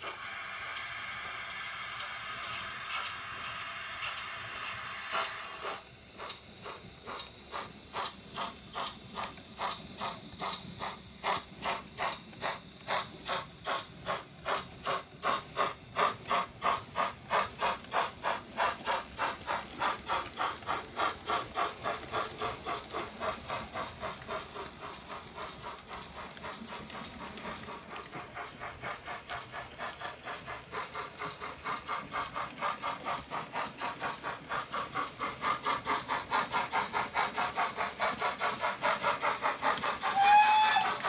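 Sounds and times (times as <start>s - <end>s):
model steam locomotive chuffs: 0.0s - 41.0s.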